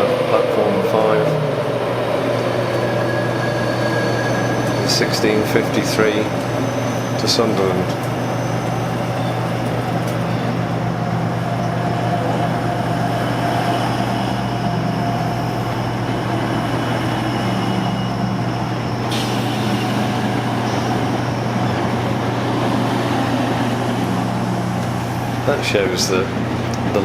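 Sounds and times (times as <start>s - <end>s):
diesel train engine humming: 0.0s - 27.0s.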